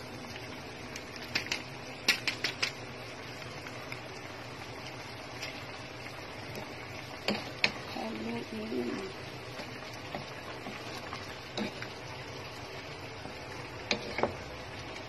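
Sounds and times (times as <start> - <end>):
simmering pot hiss: 0.0 - 15.0.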